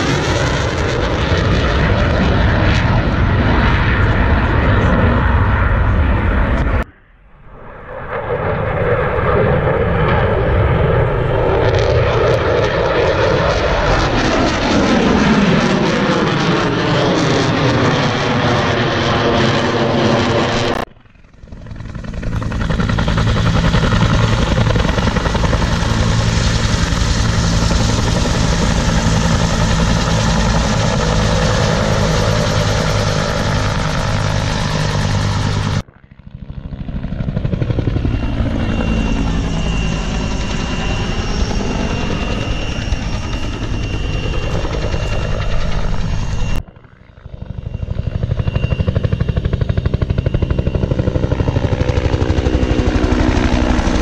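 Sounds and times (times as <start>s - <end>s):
helicopter rotors beating: 0.0s - 54.0s
turbine whine: 0.0s - 54.0s.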